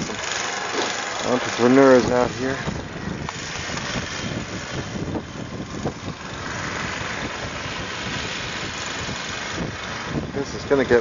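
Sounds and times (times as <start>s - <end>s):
blowing snow rushing: 0.0s - 11.0s
engine running: 0.0s - 11.0s
wind buffeting microphone: 0.0s - 11.0s.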